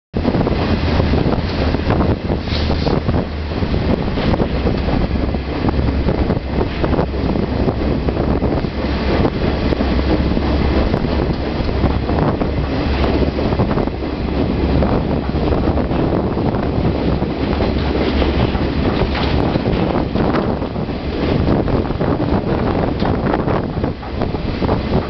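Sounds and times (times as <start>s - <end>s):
moving train rumble: 0.1s - 25.0s
wind buffeting the microphone: 0.1s - 25.0s.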